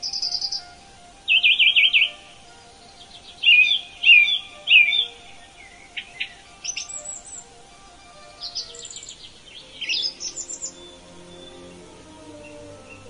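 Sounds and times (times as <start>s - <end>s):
bird whistled phrases: 0.0s - 11.7s
songbird trilling: 0.0s - 13.0s.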